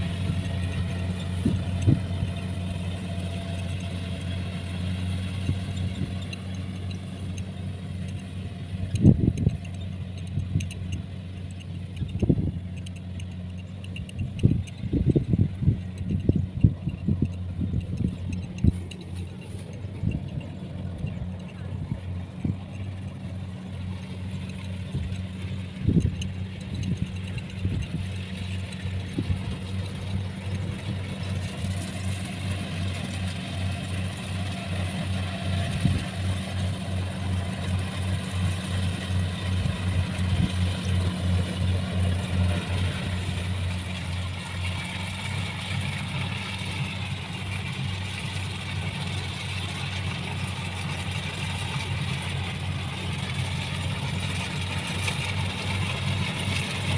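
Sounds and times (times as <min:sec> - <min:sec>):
combine harvester engine running: 0:00.0 - 0:56.9.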